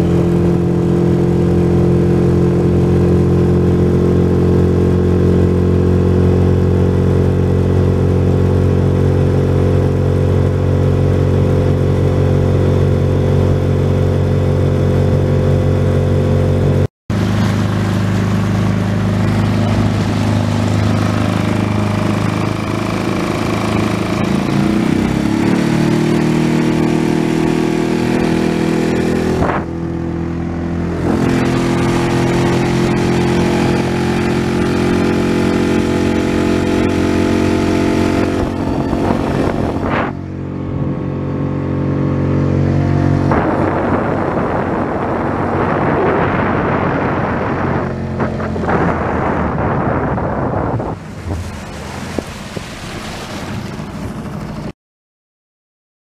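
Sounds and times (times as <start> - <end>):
outboard motor running: 0.0 - 54.7.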